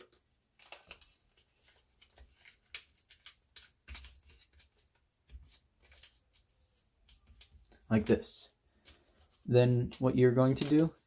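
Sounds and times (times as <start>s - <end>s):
paper rustling and crinkling: 0.6s - 7.9s, 8.8s - 11.0s.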